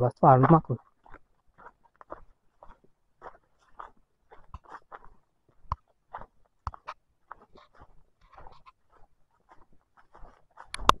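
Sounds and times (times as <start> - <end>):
footsteps crunching on leaves and stones: 0.0 - 11.0.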